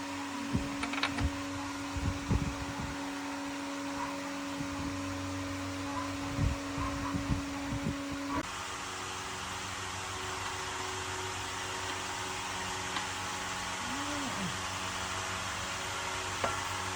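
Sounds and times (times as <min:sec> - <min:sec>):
motor hum: 0:00.0 - 0:16.9.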